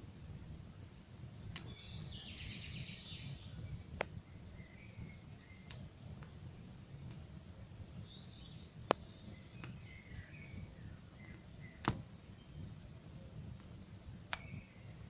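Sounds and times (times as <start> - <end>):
campfire crackling: 0.0 - 2.3, 3.0 - 15.0
small birds chirping: 0.2 - 15.0.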